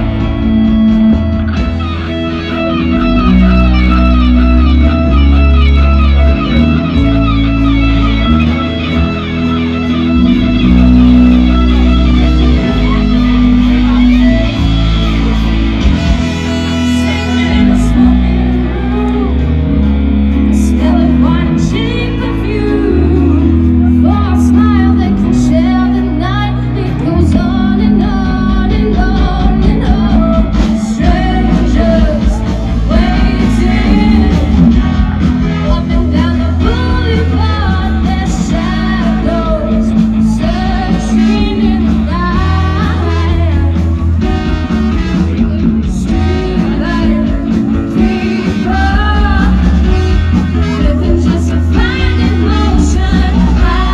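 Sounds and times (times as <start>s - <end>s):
rock song with vocals: 0.0s - 53.9s.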